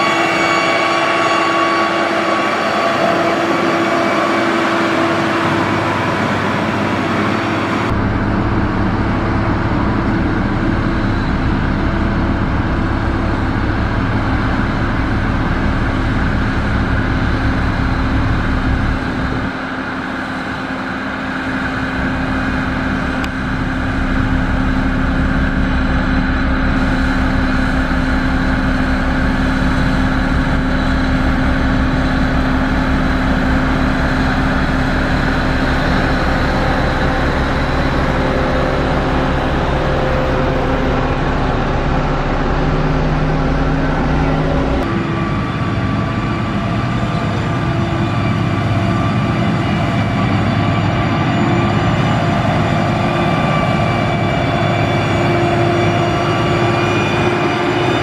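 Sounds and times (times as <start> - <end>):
heavy diesel engines rumbling: 0.0 - 58.0.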